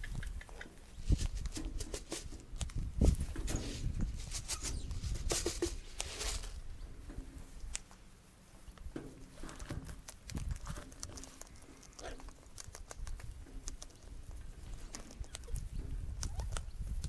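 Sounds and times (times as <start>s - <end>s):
cockatoos pecking and scratching: 0.0s - 17.0s.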